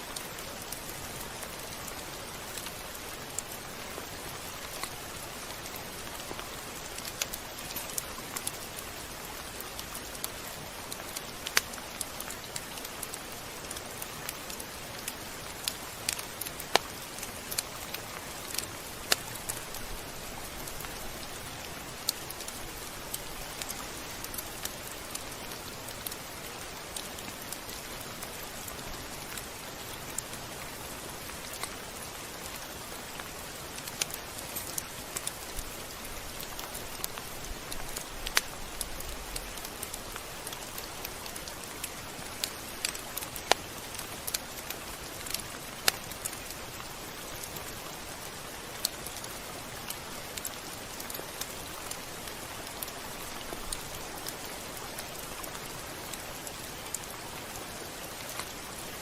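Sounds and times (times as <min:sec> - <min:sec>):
rain drops ticking: 0:00.0 - 0:59.0
steady rain falling: 0:00.0 - 0:59.0.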